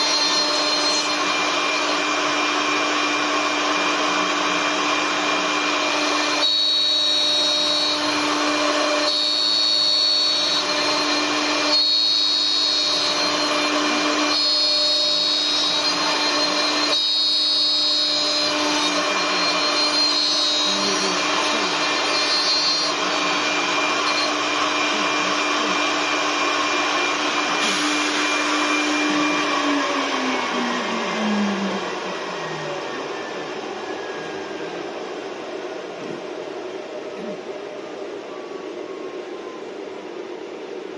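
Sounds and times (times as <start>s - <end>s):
high machine whine: 0.0s - 40.9s
lathe running with low hum: 0.0s - 40.9s.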